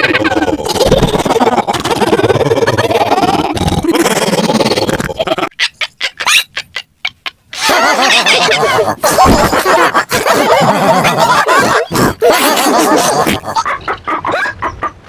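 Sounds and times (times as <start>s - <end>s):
distorted cartoon voices stuttering: 0.0s - 6.4s, 7.6s - 14.6s.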